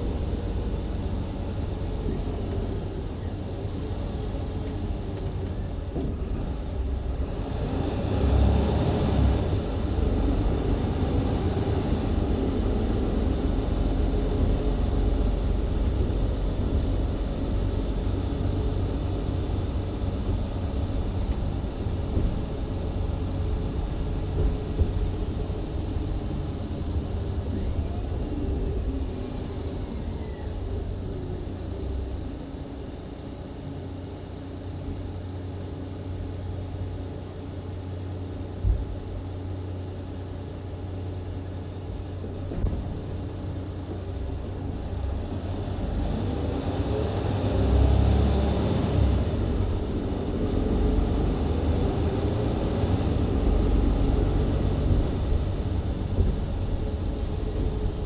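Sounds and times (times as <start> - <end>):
bus engine hum from inside: 0.0 - 58.0.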